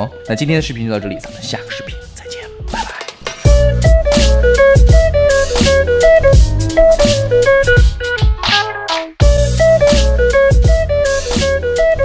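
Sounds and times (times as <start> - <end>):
music with heavy bass and drums: 1.3 - 12.0.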